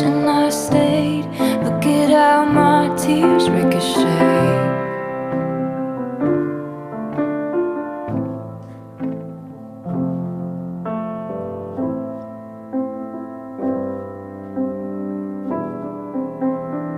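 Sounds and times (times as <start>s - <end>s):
slow solo piano: 0.0s - 16.9s.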